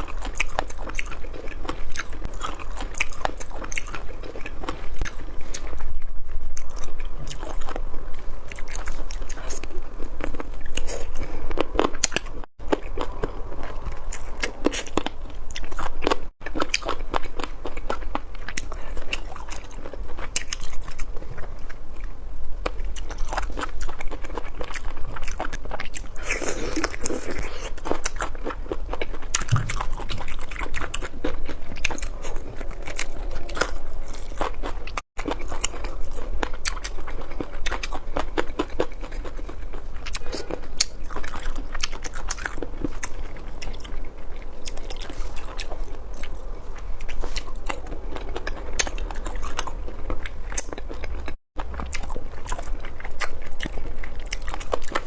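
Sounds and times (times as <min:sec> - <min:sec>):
biting and chewing food: 0:00.0 - 0:55.0.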